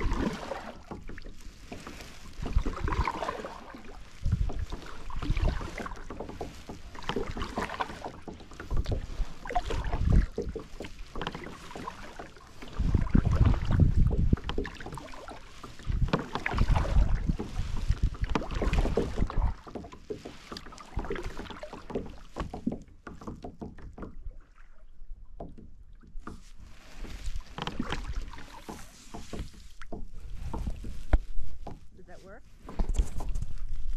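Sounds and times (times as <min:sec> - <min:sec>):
kayak paddle splashing water: 0:00.0 - 0:33.9
water running off paddle blades: 0:00.0 - 0:33.9.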